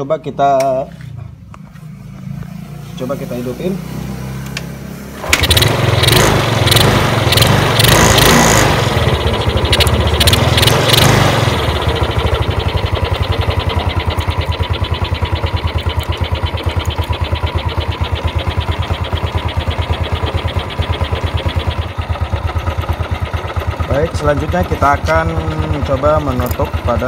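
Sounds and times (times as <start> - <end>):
scooter engine running and idling: 5.0 - 27.0.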